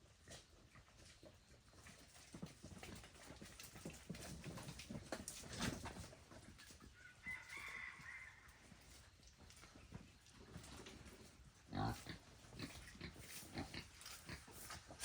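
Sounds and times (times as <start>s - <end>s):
animals knocking and rustling: 0.2s - 15.0s.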